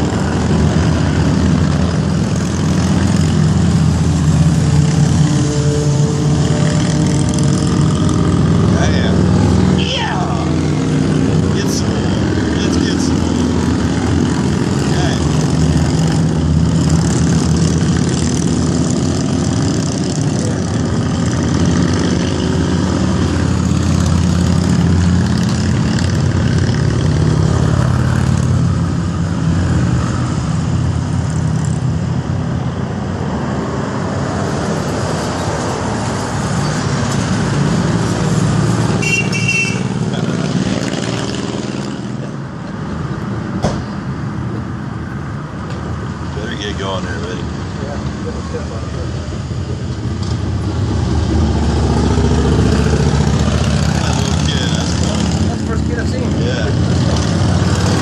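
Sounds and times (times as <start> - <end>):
motorcycles rumbling past: 0.0 - 42.4, 46.3 - 58.0
cars passing: 0.0 - 58.0.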